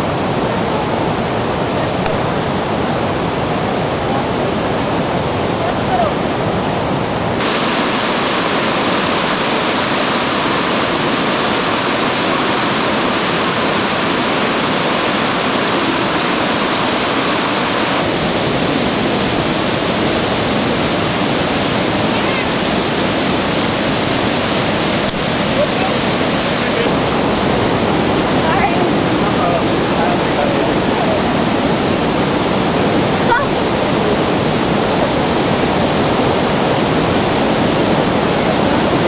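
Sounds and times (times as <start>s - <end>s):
rushing white water: 0.0s - 39.0s.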